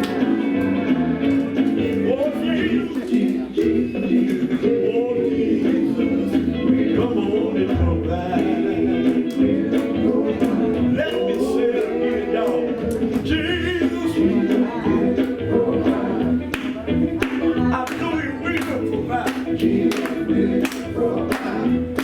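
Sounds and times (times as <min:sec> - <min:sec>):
gospel singing with band: 0:00.0 - 0:22.0.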